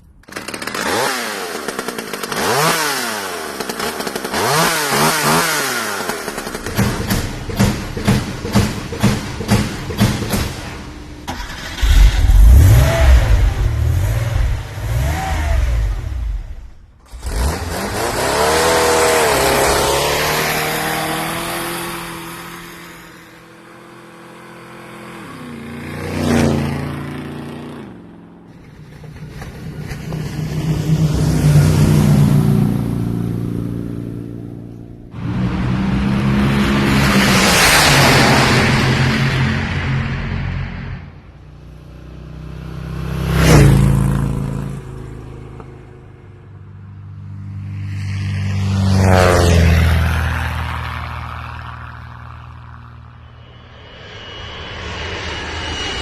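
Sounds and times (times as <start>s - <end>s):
vehicle engines revving and passing: 2.3s - 54.4s.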